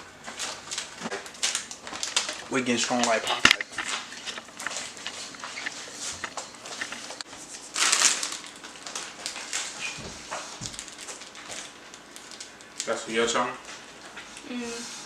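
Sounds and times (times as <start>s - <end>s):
snacks being crunched and chewed: 0.2s - 13.0s.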